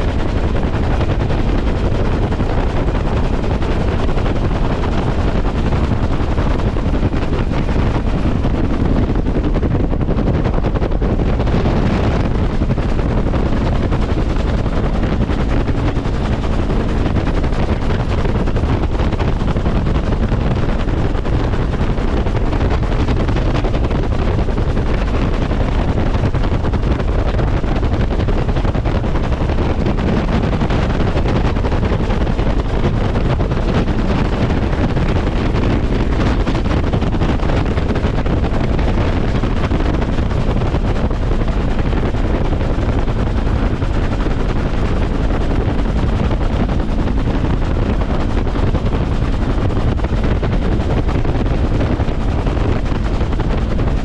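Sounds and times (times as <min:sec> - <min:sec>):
helicopter turbine engine and rotor: 0:00.0 - 0:54.0
wind buffeting microphone: 0:00.0 - 0:54.0.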